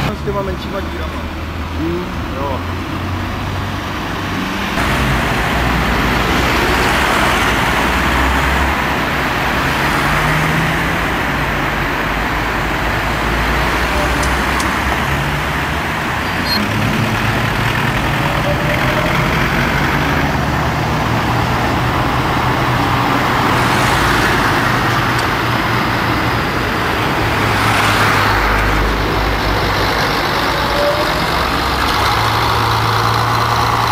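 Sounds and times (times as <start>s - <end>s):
vehicles driving past: 0.0s - 33.9s.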